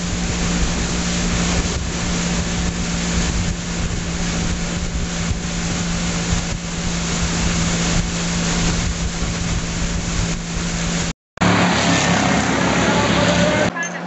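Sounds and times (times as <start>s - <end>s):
rushing wind: 0.0s - 13.8s
motorboat engine running: 0.0s - 14.0s
rushing water: 0.0s - 14.0s.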